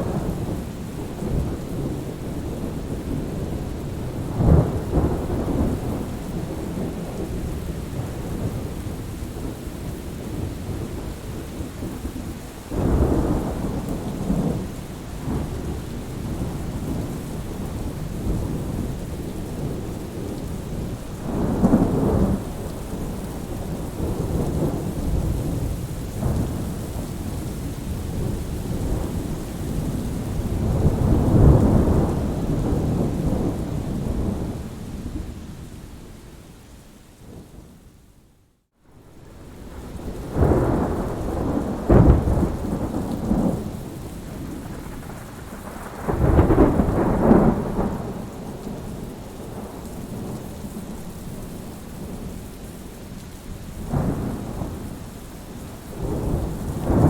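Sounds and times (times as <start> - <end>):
rolling thunder: 0.0 - 11.9, 12.7 - 35.6, 39.1 - 52.4, 53.8 - 57.0
steady rain: 0.0 - 57.0.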